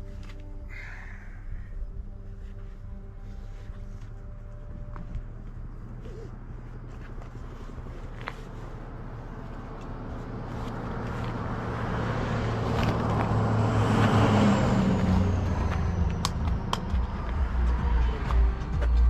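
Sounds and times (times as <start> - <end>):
car passing by: 3.4 - 19.0.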